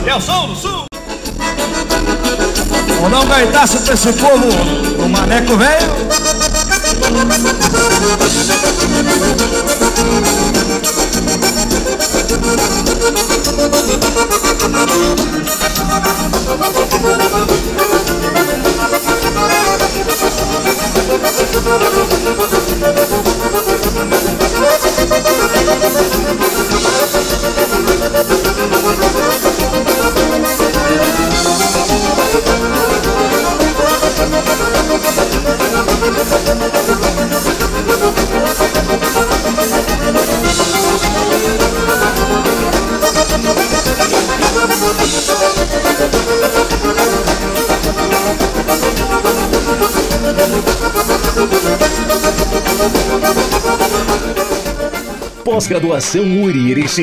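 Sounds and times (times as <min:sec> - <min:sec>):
accordion solo: 0:00.0 - 0:57.0
band beat: 0:00.0 - 0:57.0.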